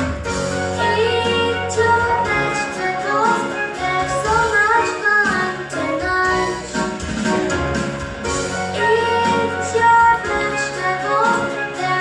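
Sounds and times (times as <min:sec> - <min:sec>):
bright children's song music: 0:00.0 - 0:12.0.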